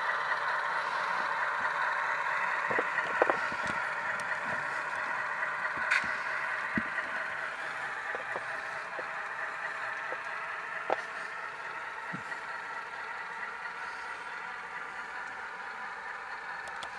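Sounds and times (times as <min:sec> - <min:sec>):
model locomotive diesel engine sound: 0:00.0 - 0:16.9
wheels clicking on track: 0:00.0 - 0:16.9.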